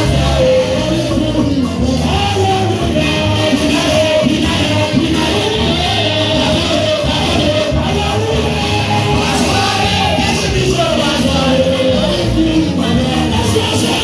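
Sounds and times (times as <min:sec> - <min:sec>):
church praise music with singing: 0:00.0 - 0:14.0.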